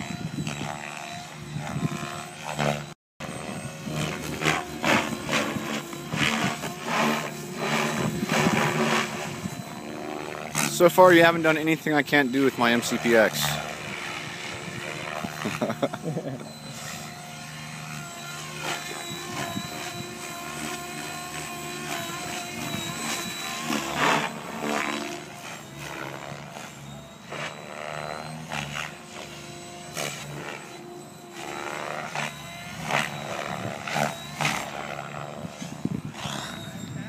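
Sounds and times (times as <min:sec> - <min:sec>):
helicopter rotor and motor whine: 0:00.0 - 0:37.0.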